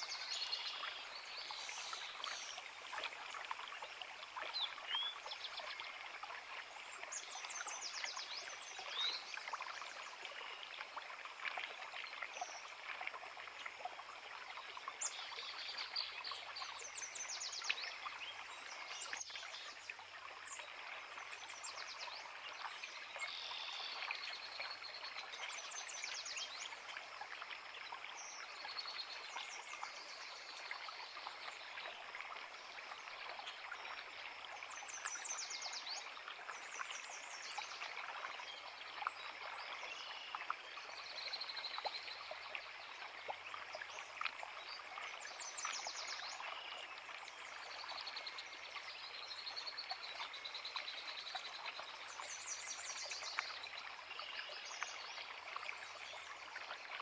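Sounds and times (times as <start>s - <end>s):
creek running: 0.0s - 57.0s.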